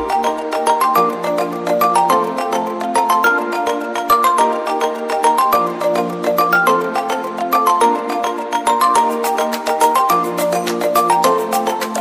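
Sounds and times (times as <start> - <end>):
light instrumental tune: 0.0 - 12.0.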